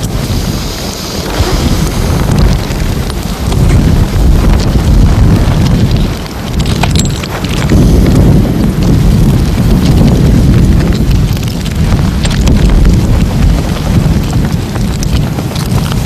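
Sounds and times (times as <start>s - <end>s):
steady rain: 0.0s - 16.0s
wind rumbling: 0.0s - 16.0s.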